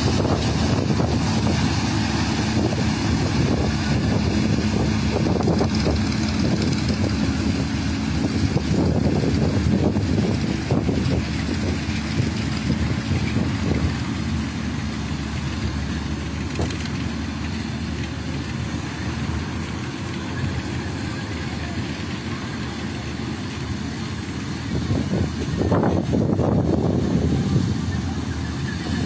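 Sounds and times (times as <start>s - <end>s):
combine harvester rumbling: 0.0s - 29.0s
wind buffeting microphone: 0.0s - 29.0s.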